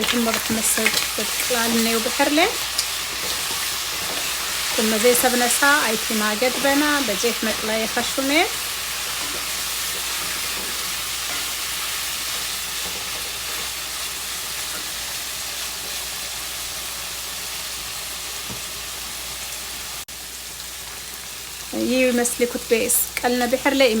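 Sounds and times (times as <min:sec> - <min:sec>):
food sizzling in frying pan: 0:00.0 - 0:24.0.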